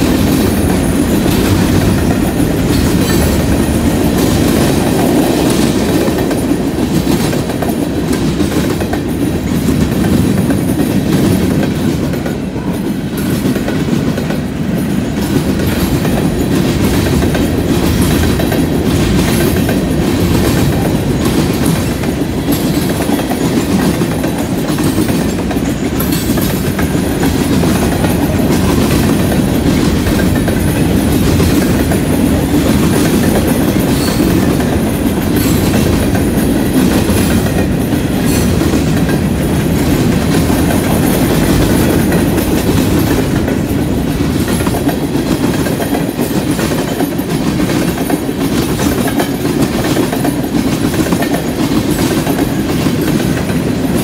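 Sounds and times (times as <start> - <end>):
freight train rolling past: 0.0 - 54.0
wheels clickety-clack on track: 0.0 - 54.0.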